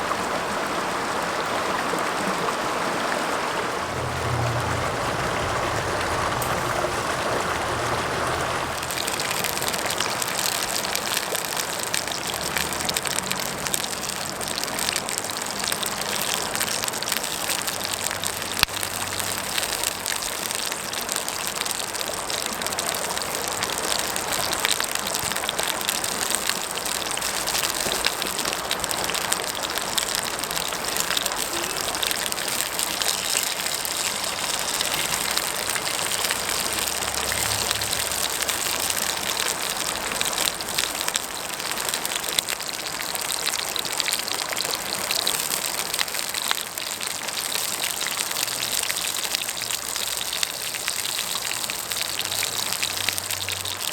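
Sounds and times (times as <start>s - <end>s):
stream rushing: 0.0s - 53.9s
sausages sizzling in skillet: 6.4s - 53.9s.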